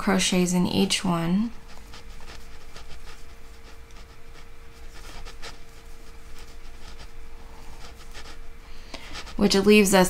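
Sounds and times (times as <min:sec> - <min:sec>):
faint steady hum: 0:00.0 - 0:10.0
crochet hook scratching yarn: 0:00.8 - 0:10.0.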